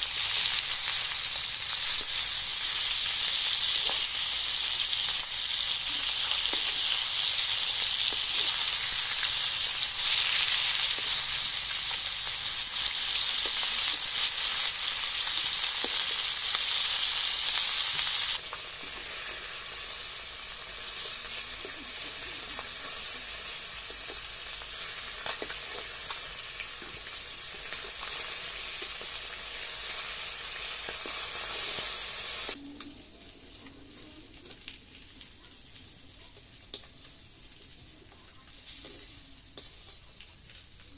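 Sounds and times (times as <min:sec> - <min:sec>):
fish sizzling in a pan: 0:00.0 - 0:32.6, 0:33.2 - 0:40.9.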